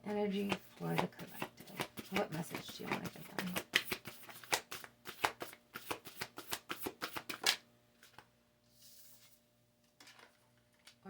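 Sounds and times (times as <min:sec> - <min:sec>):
cards being shuffled: 0:00.4 - 0:09.4.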